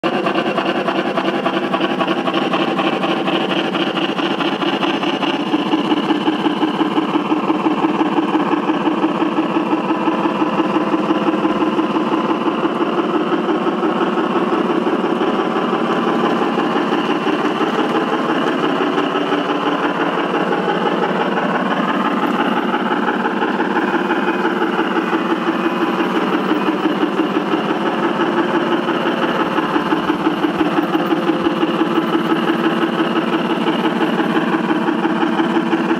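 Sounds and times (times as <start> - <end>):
model steam locomotive running: 0.0 - 35.9.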